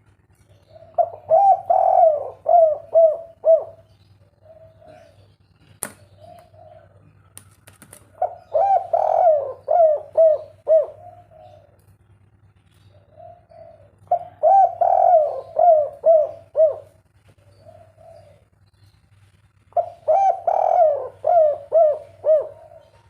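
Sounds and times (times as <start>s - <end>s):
dove cooing: 0.0s - 7.4s, 8.0s - 11.9s, 12.8s - 18.6s, 19.7s - 23.0s
steady low hum: 0.0s - 23.0s.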